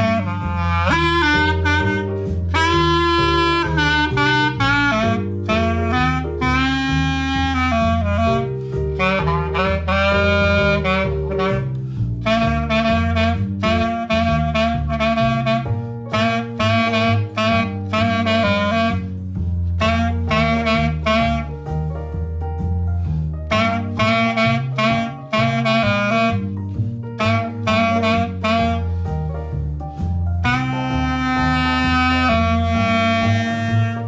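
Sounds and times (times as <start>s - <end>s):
bass line: 0.0s - 34.0s
jazz reed woodwind melody: 0.0s - 34.0s.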